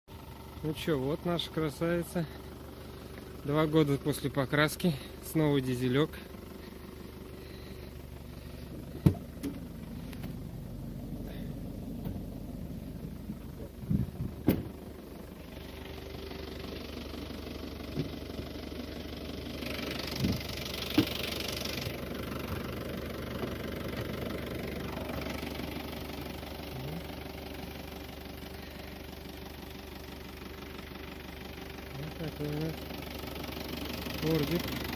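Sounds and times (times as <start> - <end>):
diesel engine idling: 0.1 - 34.9.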